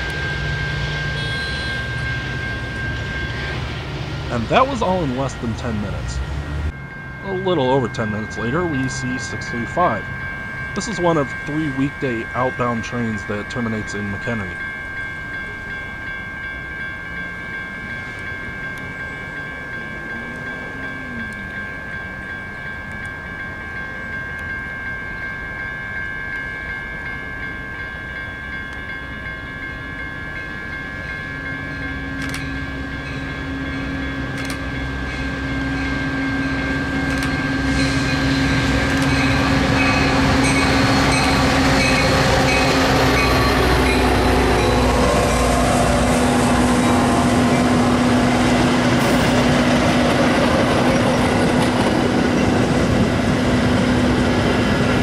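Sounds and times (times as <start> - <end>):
diesel locomotive engine: 0.0 - 55.0
train wheels on rails: 0.0 - 55.0.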